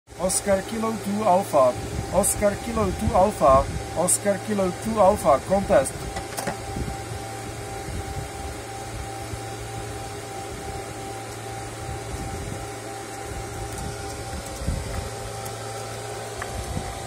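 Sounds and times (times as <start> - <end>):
cooling fans whirring hum: 0.1 - 17.0.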